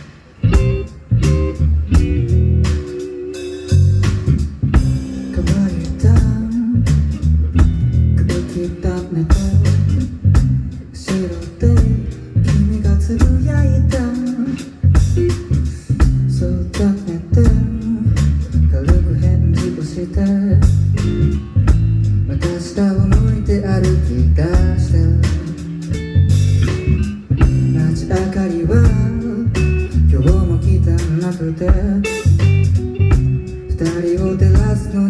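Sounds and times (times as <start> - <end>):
drums: 0.0 - 35.0
guitar: 0.0 - 35.0
heavy bass line: 0.0 - 35.0
live band music: 0.0 - 35.0.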